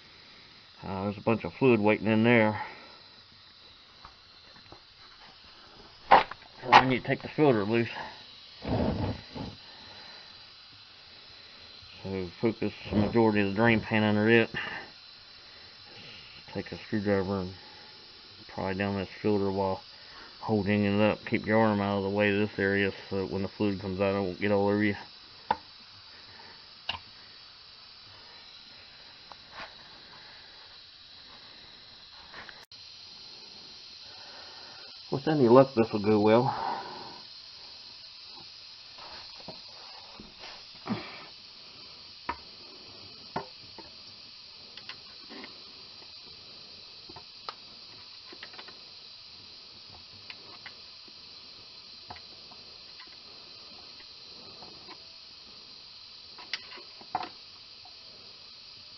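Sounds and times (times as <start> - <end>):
steady background hiss: 0.0 - 58.9.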